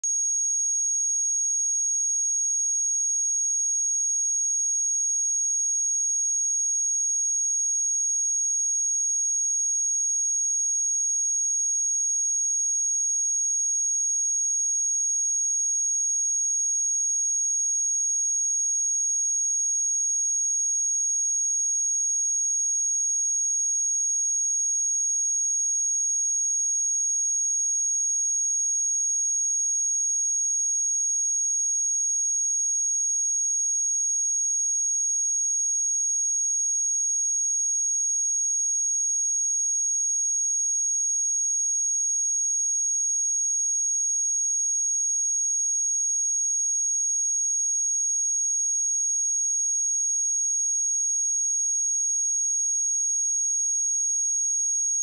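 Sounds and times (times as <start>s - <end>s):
high-pitched sine test tone: 0.0s - 55.0s.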